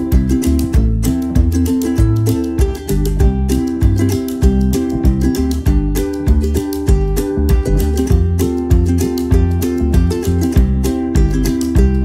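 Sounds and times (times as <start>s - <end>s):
plucked strings with bass and beat: 0.0s - 12.0s.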